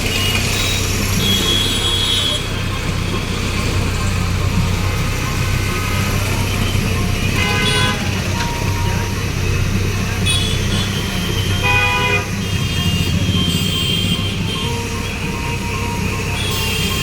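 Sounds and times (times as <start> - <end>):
heavy engine running: 0.0 - 17.0
horn sounding: 0.0 - 17.0.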